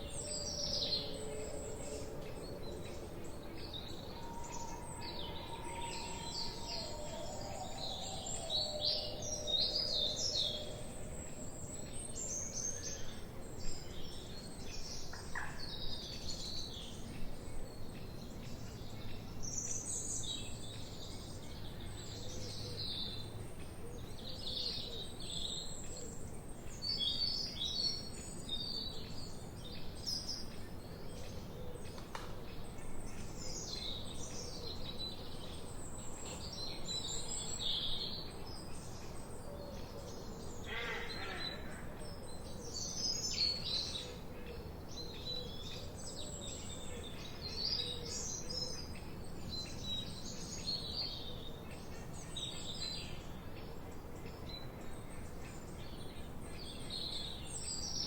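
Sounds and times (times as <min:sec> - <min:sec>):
forest birds singing and chirping: 0:00.0 - 0:58.0
steady low background hiss: 0:00.0 - 0:58.0.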